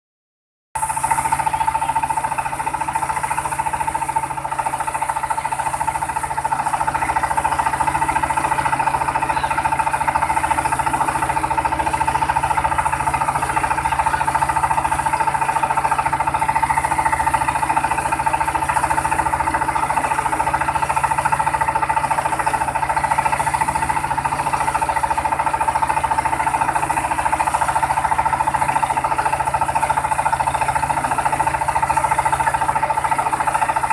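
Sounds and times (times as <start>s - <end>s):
milling machine whining and rattling: 0.8s - 33.9s.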